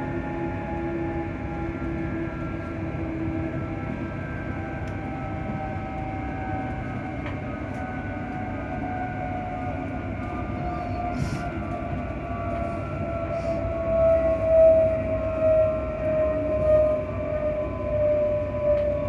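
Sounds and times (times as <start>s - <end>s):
electric train whine: 0.0s - 19.0s
wheels rumbling on track: 0.0s - 19.0s.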